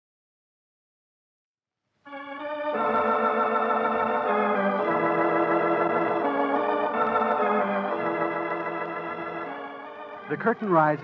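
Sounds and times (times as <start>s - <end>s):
organ chords: 2.1s - 11.0s.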